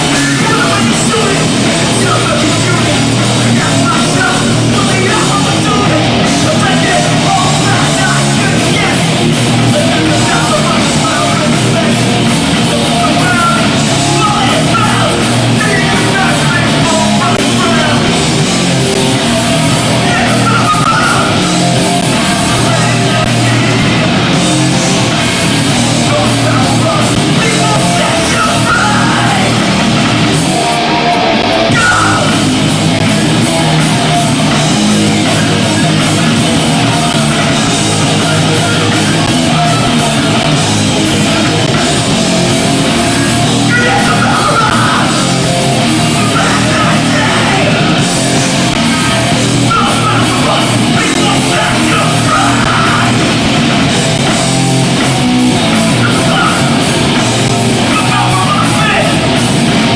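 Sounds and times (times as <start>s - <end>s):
distorted guitars: 0.0s - 59.9s
drums: 0.0s - 59.9s.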